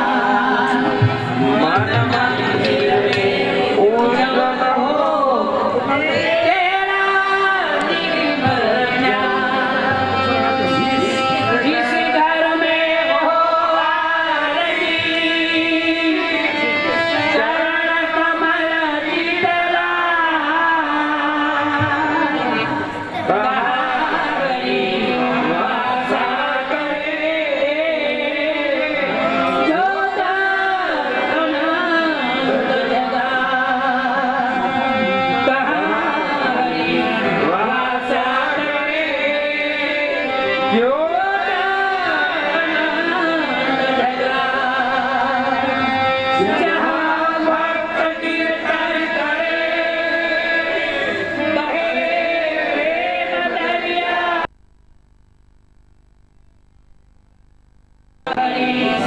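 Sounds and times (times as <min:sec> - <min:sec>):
harmonium chords: 0:00.0 - 0:53.9
man singing through microphone: 0:00.0 - 0:54.5, 0:58.3 - 0:59.0.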